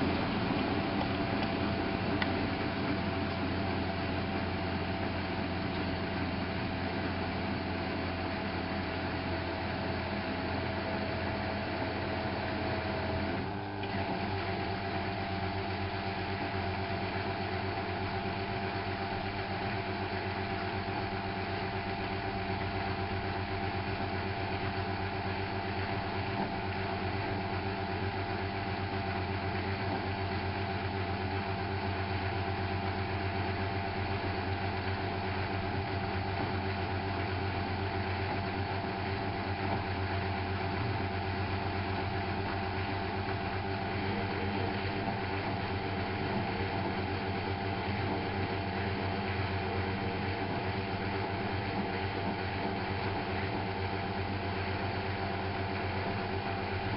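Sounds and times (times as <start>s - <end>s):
washing machine motor hum: 0.0s - 56.9s.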